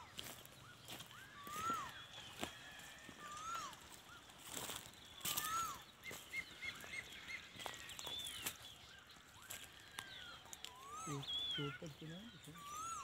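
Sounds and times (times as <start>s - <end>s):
birds whistling calls: 0.0s - 13.0s.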